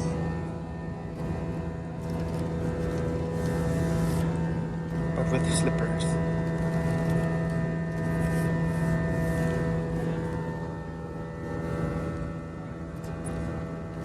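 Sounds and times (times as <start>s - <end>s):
aircraft cabin air-conditioning hum: 0.0s - 14.0s.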